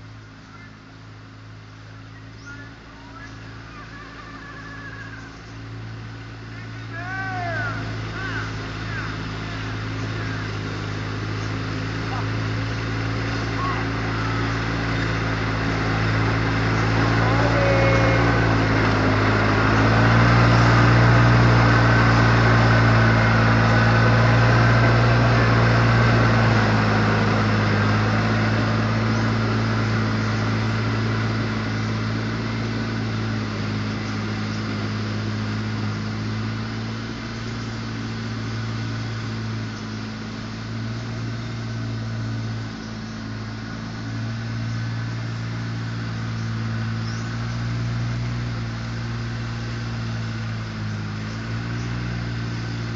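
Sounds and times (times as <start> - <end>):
riding mower engine running: 0.0 - 52.9.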